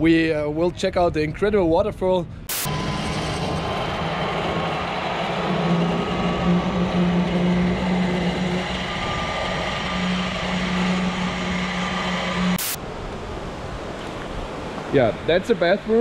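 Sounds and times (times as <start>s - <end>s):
road noise: 2.4s - 16.0s
vehicle engine droning: 2.5s - 16.0s.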